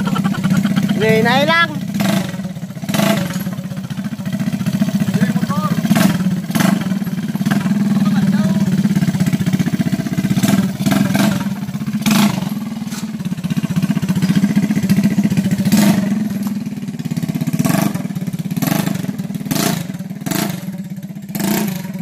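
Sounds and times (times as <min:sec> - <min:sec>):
exhaust bangs: 0:00.0 - 0:20.7
motorcycle engine running: 0:00.0 - 0:22.0.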